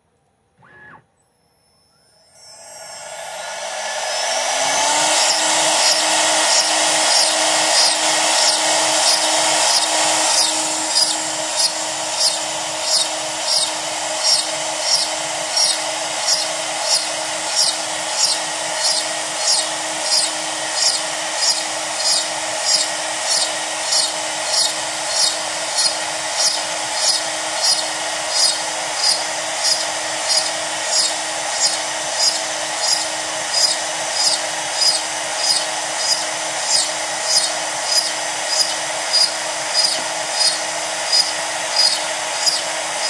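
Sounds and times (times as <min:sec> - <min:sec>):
router spindle whining: 0:00.6 - 0:43.0
bit cutting into wood: 0:02.2 - 0:43.0.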